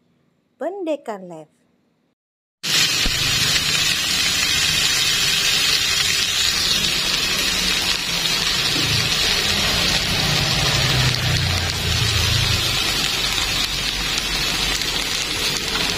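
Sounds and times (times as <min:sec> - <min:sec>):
chicken sizzling in a grill pan: 0:02.6 - 0:15.9.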